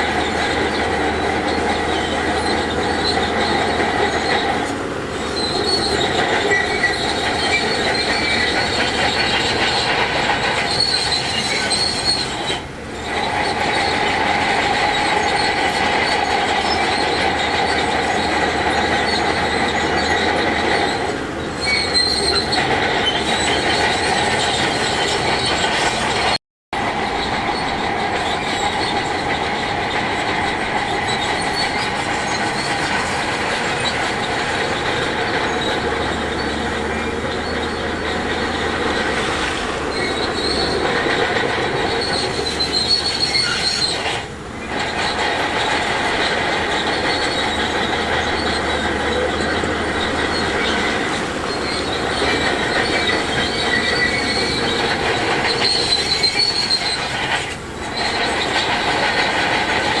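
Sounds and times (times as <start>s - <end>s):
high-pitched metallic squeal: 0.0s - 26.4s, 27.0s - 60.0s
heavy earthmoving machinery working: 0.0s - 60.0s.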